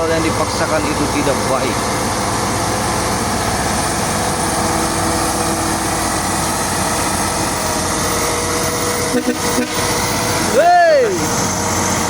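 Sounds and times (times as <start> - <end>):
heavy truck engines under load: 0.0 - 12.0.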